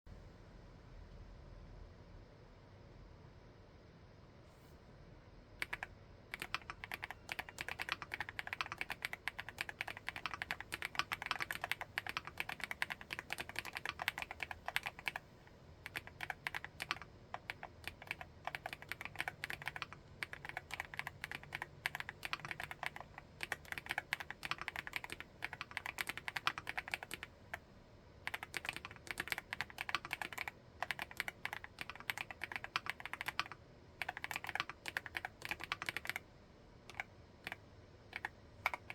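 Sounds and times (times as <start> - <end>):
mechanical keyboard typing: 5.6 - 27.6, 28.3 - 36.2, 36.9 - 38.9.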